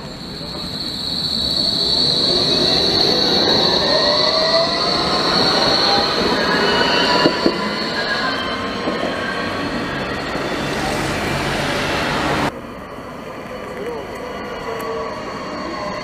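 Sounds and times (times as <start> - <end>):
high-pitched wheel squeal: 0.0 - 12.5, 13.8 - 16.0
tram rolling on track: 0.0 - 16.0.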